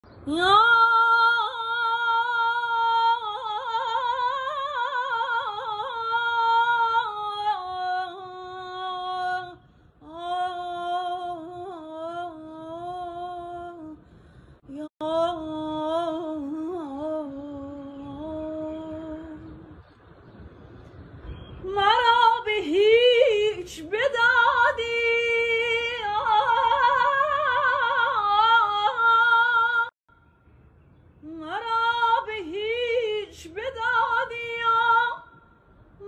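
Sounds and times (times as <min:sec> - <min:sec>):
woman singing slow melody: 0:00.2 - 0:14.0, 0:14.7 - 0:19.8, 0:21.6 - 0:30.0, 0:31.2 - 0:35.4.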